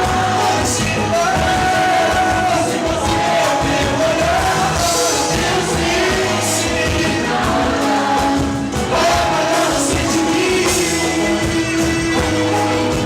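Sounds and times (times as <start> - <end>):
samba percussion: 0.0 - 13.0
voices singing together: 0.0 - 13.0.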